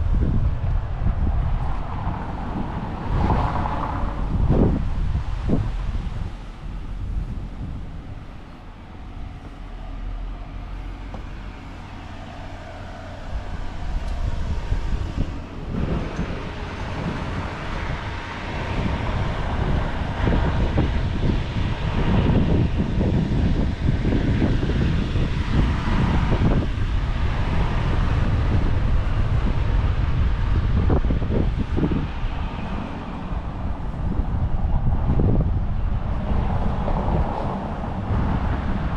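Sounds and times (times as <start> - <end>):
traffic noise: 0.0 - 38.9
wind buffeting microphone: 0.0 - 38.9.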